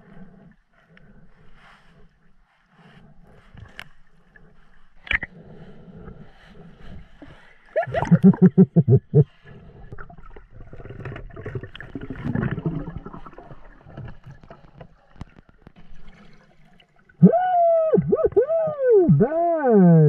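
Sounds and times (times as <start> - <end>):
muffled underwater water movement: 0.0 - 20.0.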